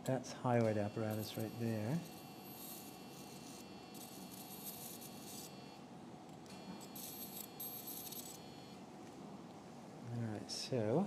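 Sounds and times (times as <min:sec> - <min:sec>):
electrosurgical unit buzzing: 0:00.0 - 0:09.5.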